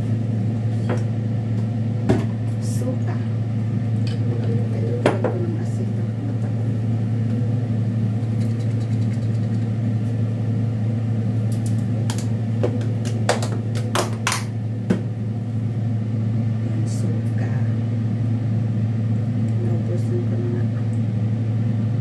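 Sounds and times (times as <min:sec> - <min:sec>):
kitchen appliance humming: 0:00.0 - 0:22.0.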